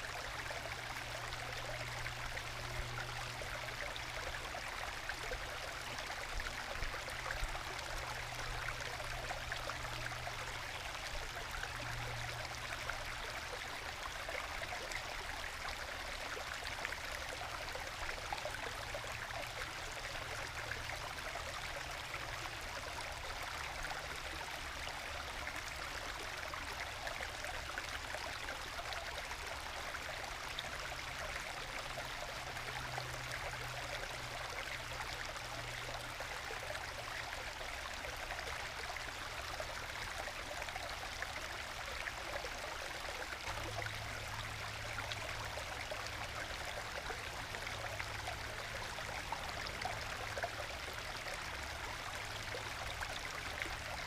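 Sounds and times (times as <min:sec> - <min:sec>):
stream trickling and gurgling: 0:00.0 - 0:54.0.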